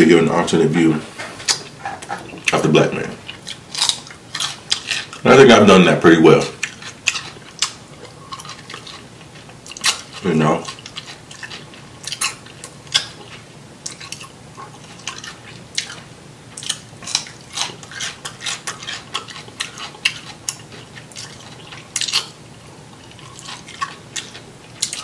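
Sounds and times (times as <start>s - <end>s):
chewing crunchy cucumber: 1.5s - 25.0s.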